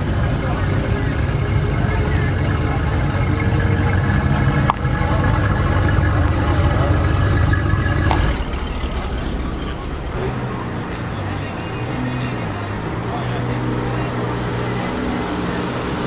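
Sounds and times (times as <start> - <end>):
car engine exhaust rumble: 0.0 - 16.0.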